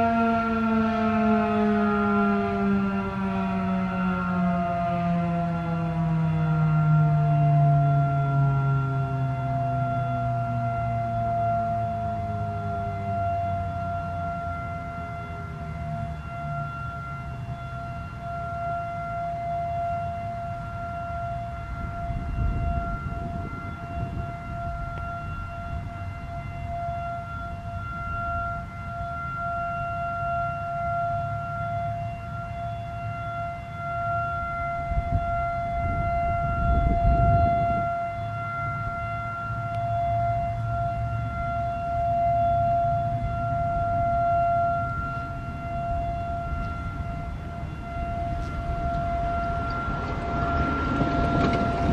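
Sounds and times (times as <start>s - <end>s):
warning siren steady tone: 0.0s - 51.9s.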